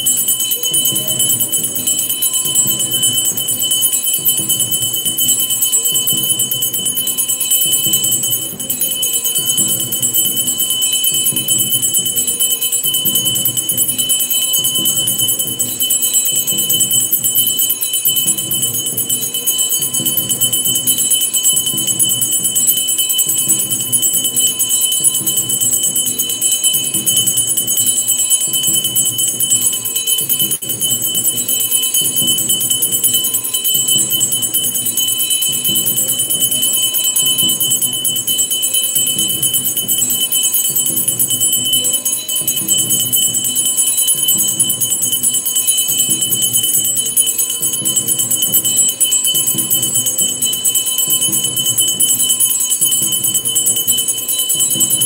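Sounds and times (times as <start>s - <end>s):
rhythmic pulse: 0.0s - 55.0s
temple bells ringing: 0.0s - 55.0s.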